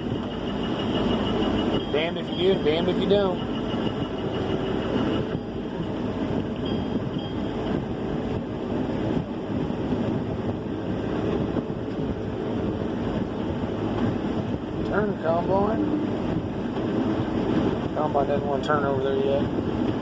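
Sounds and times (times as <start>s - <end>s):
combine harvester droning: 0.0s - 20.0s.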